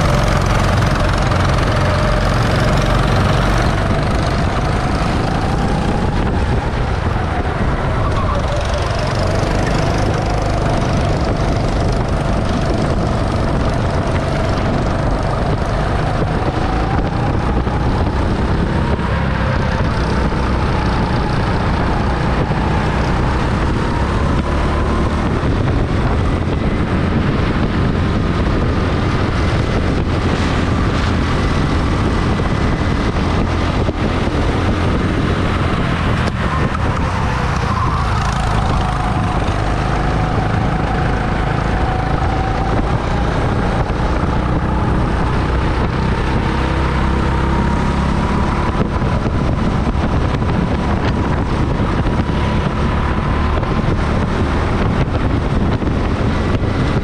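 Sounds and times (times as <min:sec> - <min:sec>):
heavy low rumble: 0:00.0 - 0:57.0
wind on microphone: 0:00.0 - 0:57.0.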